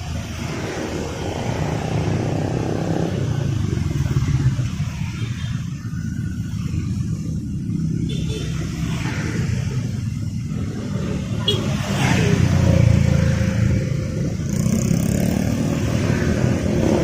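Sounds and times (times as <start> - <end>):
traffic passing: 0.0 - 17.0.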